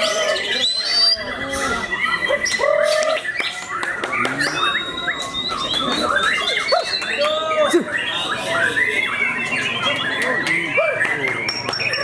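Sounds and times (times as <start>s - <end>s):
birds whistling and chirping: 0.0s - 12.0s.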